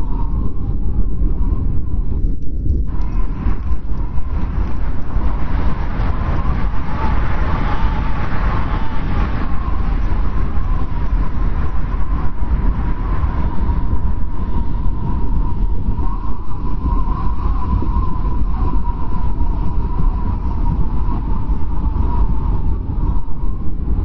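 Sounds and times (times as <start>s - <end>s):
snowstorm wind blowing: 0.0s - 24.0s.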